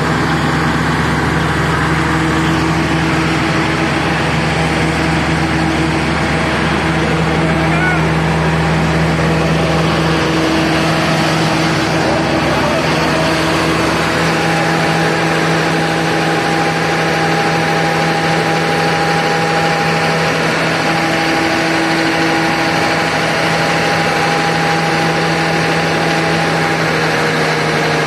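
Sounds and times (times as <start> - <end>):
diesel generator running: 0.0 - 28.0.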